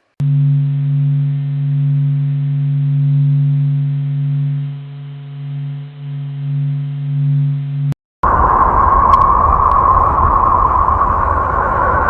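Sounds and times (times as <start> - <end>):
deep electronic hum: 0.0 - 12.0.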